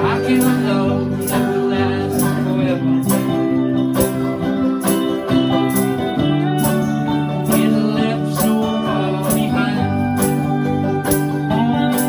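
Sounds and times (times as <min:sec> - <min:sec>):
acoustic guitar strumming: 0:00.0 - 0:12.0
band playing held chords: 0:00.0 - 0:12.0.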